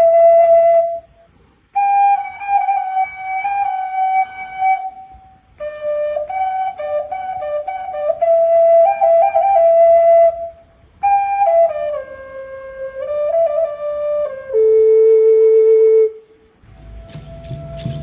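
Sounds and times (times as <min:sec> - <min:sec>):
flute playing slow melody: 0:00.0 - 0:18.0.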